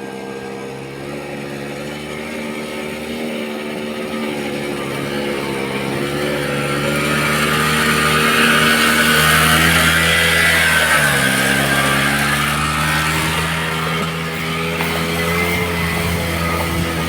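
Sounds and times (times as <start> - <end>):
motor scooter engine running: 0.0 - 17.0.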